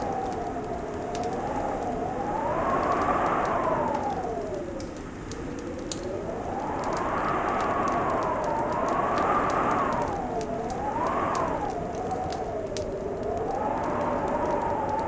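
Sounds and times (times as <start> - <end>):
fireplace crackles: 0.0 - 15.0
wind whistling: 0.0 - 15.0.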